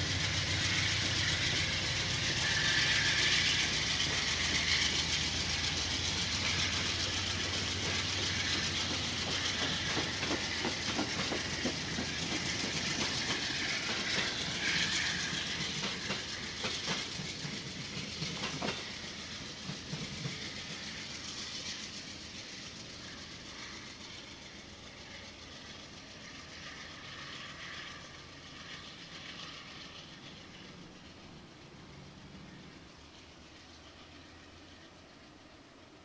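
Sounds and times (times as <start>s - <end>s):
train wheels clacking over rails: 0.0s - 36.0s.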